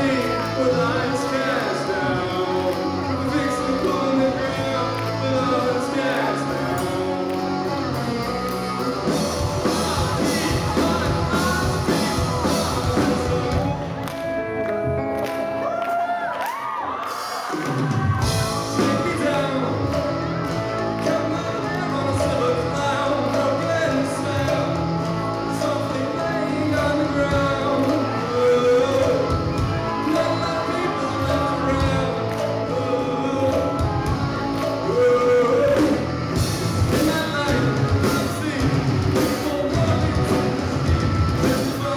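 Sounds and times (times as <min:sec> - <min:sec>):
person singing: 0:00.0 - 0:14.6, 0:15.5 - 0:41.9
live rock band: 0:00.0 - 0:41.9.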